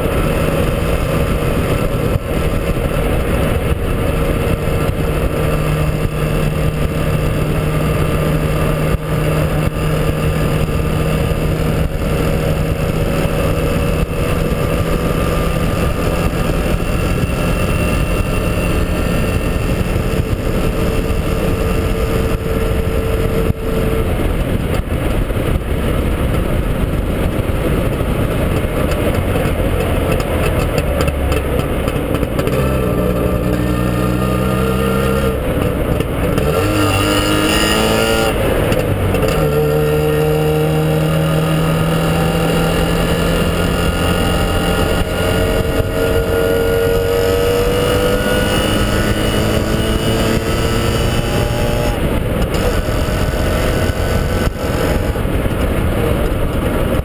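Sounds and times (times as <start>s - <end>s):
two-stroke car engine running: 0.0s - 57.0s
wind and tyre noise: 0.0s - 57.0s.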